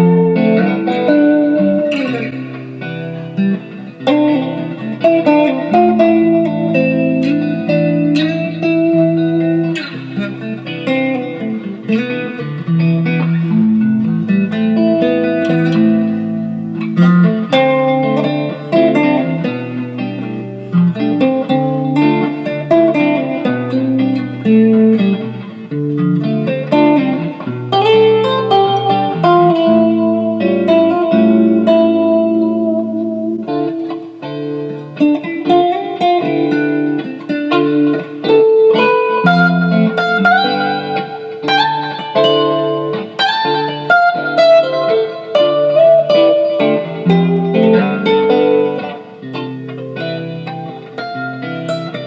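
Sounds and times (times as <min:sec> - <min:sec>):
electric guitar playing chords: 0:00.0 - 0:52.0.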